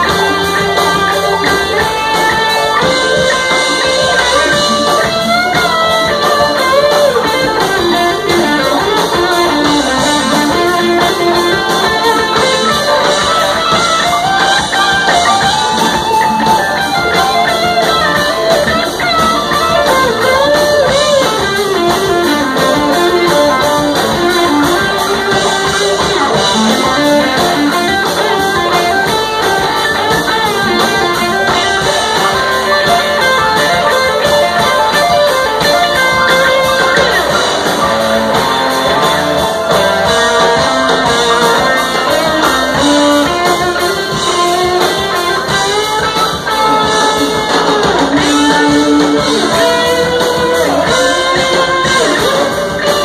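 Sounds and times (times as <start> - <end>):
drums: 0.0 - 53.0
electric guitar: 0.0 - 53.0
keyboards: 0.0 - 53.0.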